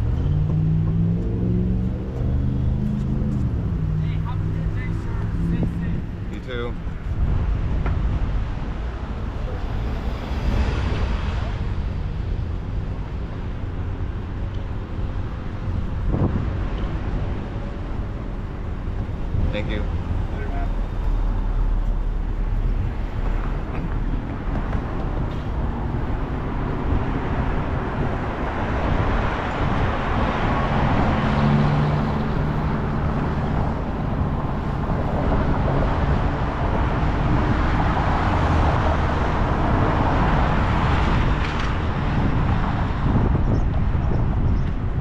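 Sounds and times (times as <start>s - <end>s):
wind on microphone: 0.0s - 20.3s, 20.9s - 45.0s
traffic rushing: 0.0s - 45.0s.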